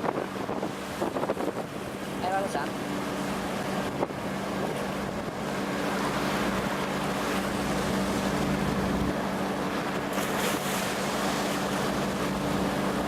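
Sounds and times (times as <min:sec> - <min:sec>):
boat engine humming: 0:00.0 - 0:13.0
sea: 0:00.0 - 0:13.0
wind: 0:00.0 - 0:13.0.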